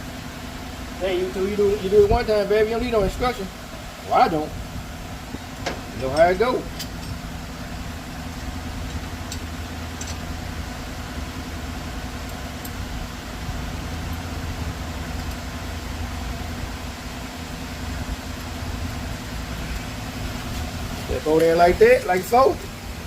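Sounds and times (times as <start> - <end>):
low mechanical machine hum: 0.0 - 23.0.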